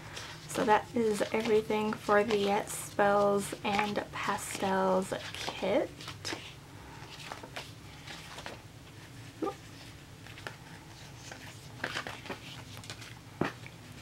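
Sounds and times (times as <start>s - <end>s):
paper sheets rustling: 0.1s - 14.0s.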